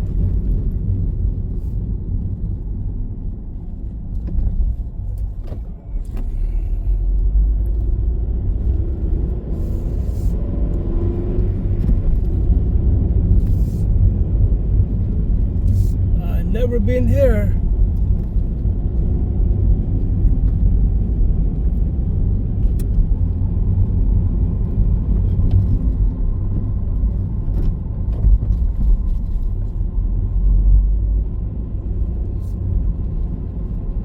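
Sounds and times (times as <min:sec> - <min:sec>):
low travel rumble: 0:00.0 - 0:34.0.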